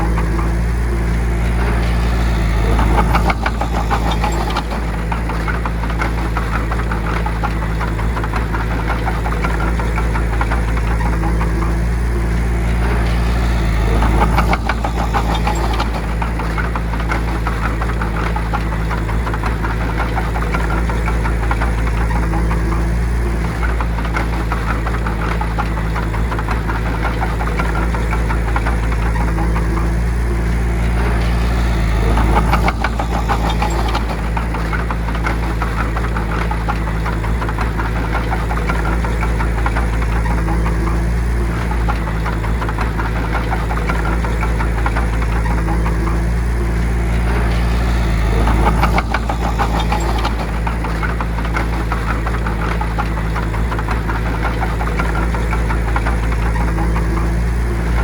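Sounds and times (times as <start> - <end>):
bulldozer diesel engine running: 0.0 - 58.0
dense clattering: 0.0 - 58.0.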